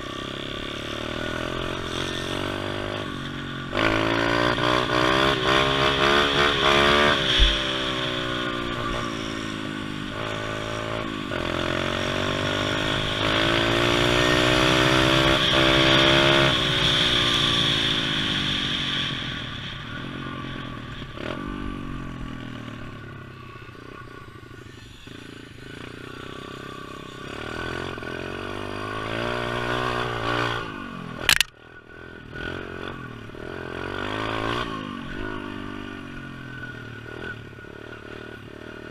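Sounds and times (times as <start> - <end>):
pit bike engine revving: 0.0 - 31.5, 32.2 - 38.9.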